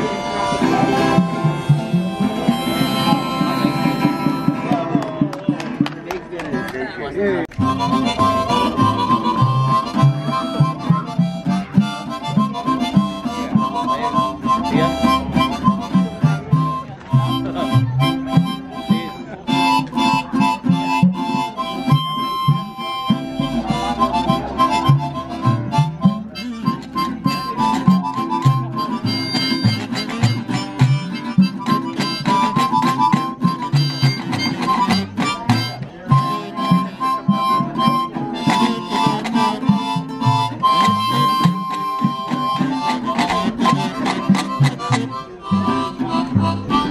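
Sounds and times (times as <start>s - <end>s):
harmonica playing chords: 0.0s - 5.2s, 7.5s - 46.9s
guitar plucking: 0.0s - 46.9s.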